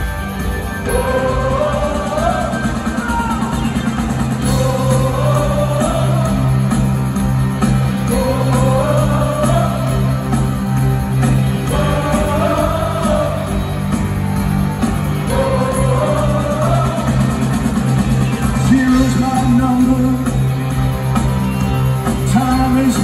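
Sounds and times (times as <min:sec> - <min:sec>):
live rock band playing: 0:00.0 - 0:23.0
lead vocal singing: 0:00.8 - 0:20.6, 0:22.2 - 0:23.0.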